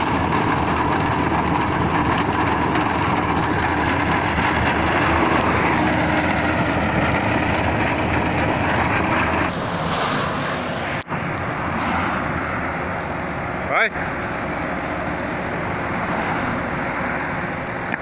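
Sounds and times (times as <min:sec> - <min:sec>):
loader grinding asphalt: 0:00.0 - 0:18.0.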